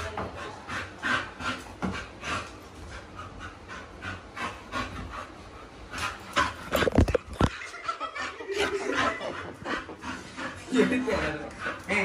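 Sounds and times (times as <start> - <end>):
dog panting: 0.0 - 7.1, 7.8 - 12.0.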